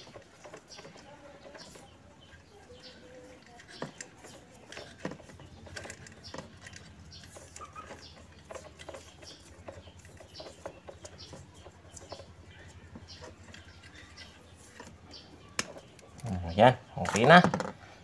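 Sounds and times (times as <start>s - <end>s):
wires rustling: 0.0s - 17.8s.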